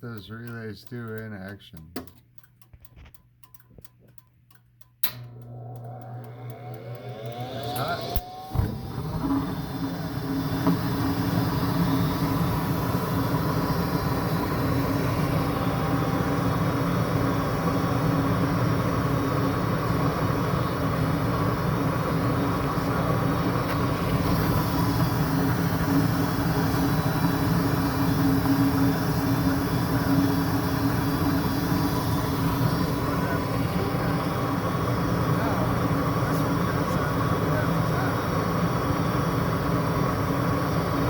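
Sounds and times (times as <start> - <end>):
furnace flame and blower roar: 5.0 - 41.0.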